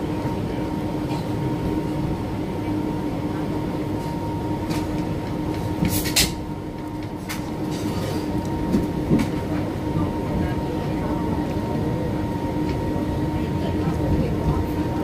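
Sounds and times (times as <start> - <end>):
steady hum: 0.0 - 15.0
train running rumble: 0.0 - 15.0.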